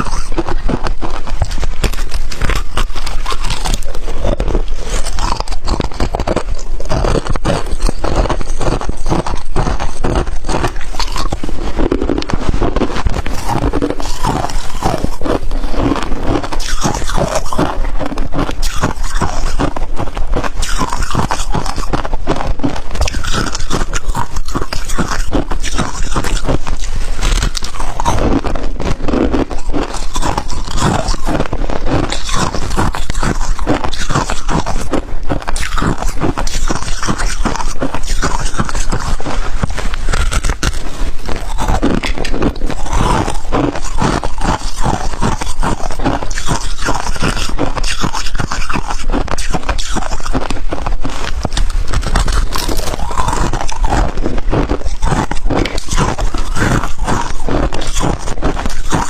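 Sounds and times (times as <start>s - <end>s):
crunchy chewing of frost: 0.0s - 59.0s.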